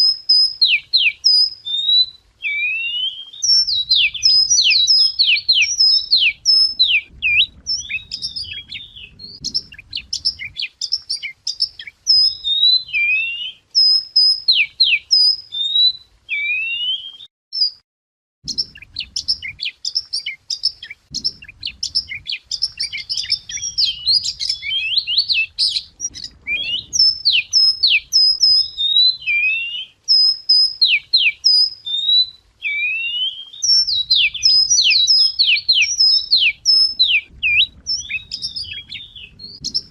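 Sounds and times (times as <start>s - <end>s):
bird song with whistles and trills: 0.0s - 17.8s, 18.4s - 39.9s.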